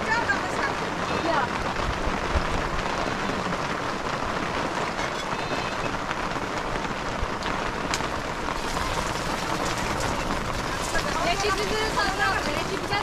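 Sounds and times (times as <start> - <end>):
heavy rain on plastic tarp: 0.0 - 13.0.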